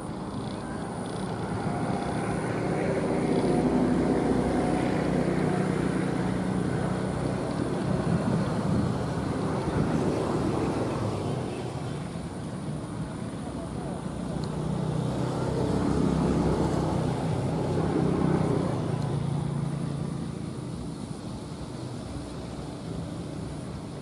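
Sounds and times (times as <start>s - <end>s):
scooter engine running: 0.0s - 24.0s.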